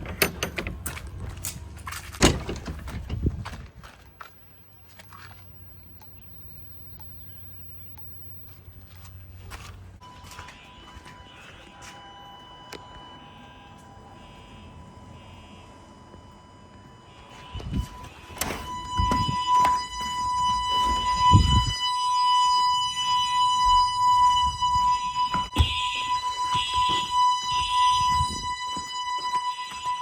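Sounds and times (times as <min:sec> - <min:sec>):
pulsing alarm: 0:00.0 - 0:30.0
steady high alarm tone: 0:04.2 - 0:30.0.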